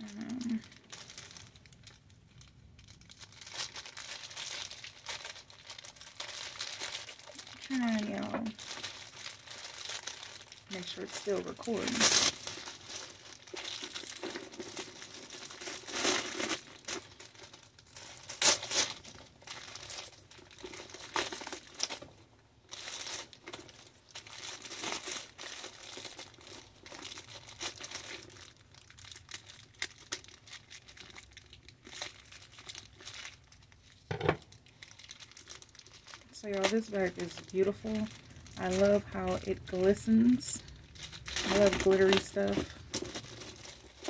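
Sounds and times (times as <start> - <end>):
packaging crinkling and rustling: 0.0 - 44.0.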